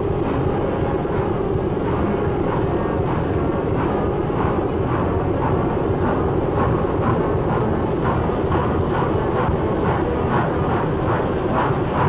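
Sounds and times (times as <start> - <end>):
steady rushing noise: 0.0 - 12.0
steam locomotive exhaust chuffing: 0.0 - 12.0.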